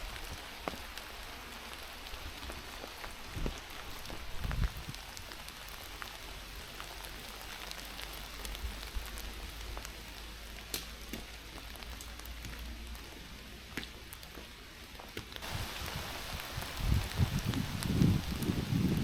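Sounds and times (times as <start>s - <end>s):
light rain falling: 0.0s - 19.0s.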